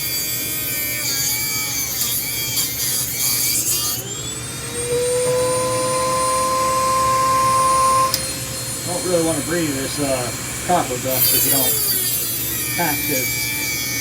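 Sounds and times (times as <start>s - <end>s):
rotary tool cutting metal: 0.0s - 14.0s.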